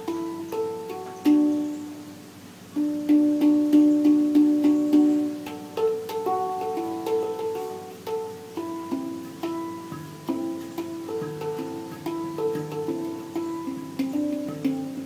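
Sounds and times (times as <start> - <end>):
handpan notes ringing: 0.0 - 15.0.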